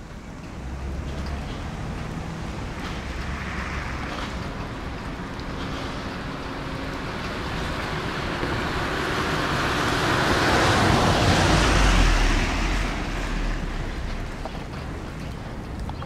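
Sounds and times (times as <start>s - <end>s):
car passing by: 0.5s - 14.8s.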